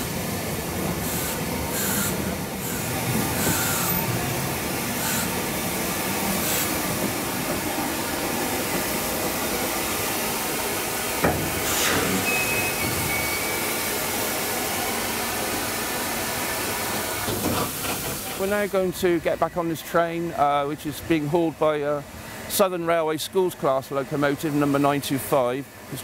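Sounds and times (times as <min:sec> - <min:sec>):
steam locomotive hissing: 0:00.0 - 0:26.0.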